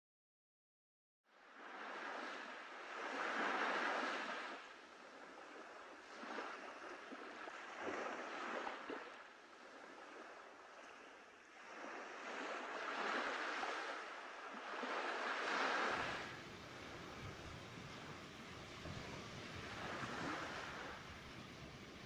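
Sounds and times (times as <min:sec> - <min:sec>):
small sea waves washing ashore: 0:01.3 - 0:22.0.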